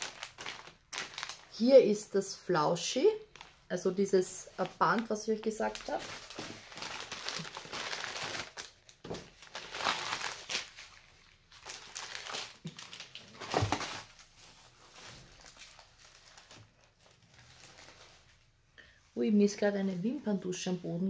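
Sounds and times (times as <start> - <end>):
plastic packaging crinkling: 0.0 - 1.7, 3.2 - 18.5.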